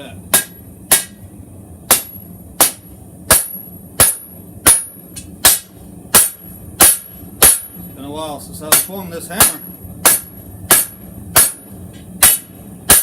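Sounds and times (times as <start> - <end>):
low steady hum: 0.0 - 13.0
hammer striking hot steel on anvil: 0.3 - 7.9, 8.6 - 13.0.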